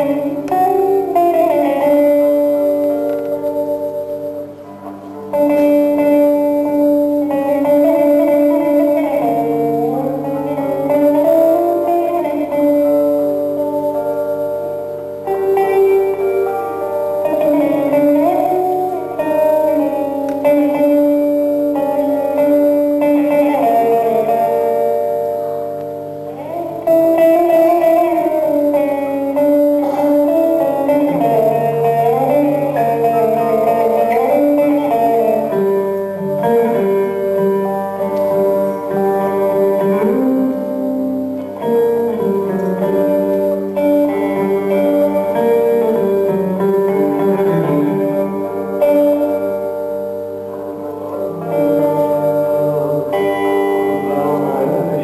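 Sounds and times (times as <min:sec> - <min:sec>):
plucked string instrument melody: 0:00.0 - 0:55.0.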